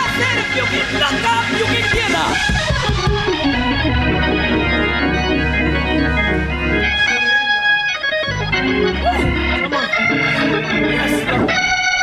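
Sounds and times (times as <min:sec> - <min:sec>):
organ playing sustained chords: 0:00.0 - 0:12.0.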